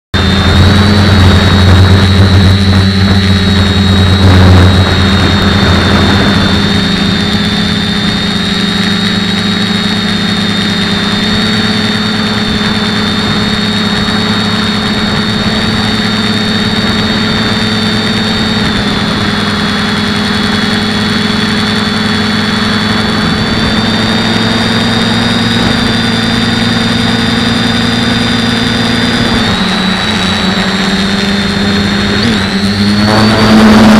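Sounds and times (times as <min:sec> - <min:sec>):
drone propellers whining: 0:00.1 - 0:33.9.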